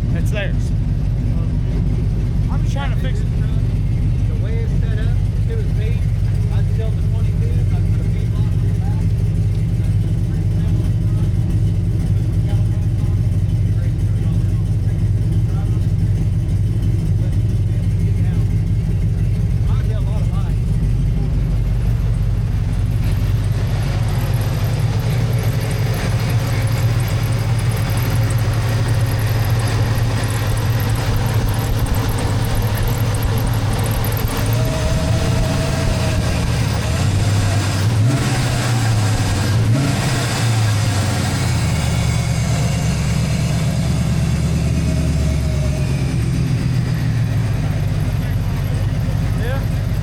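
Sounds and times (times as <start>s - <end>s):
pickup truck engine running: 0.0s - 50.0s.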